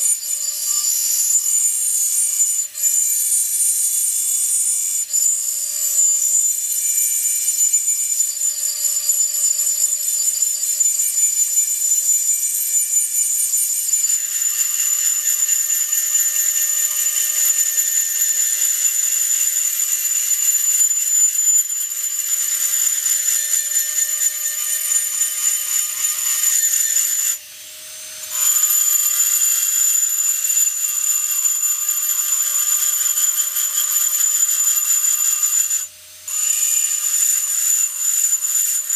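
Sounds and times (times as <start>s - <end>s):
rotary engraver whining: 0.0s - 38.9s.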